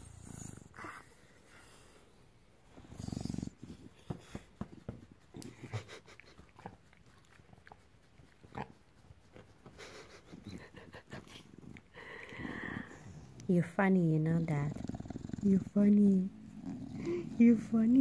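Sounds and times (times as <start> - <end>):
dog grunting and breathing: 0.0 - 4.6, 5.3 - 13.5, 14.3 - 18.0.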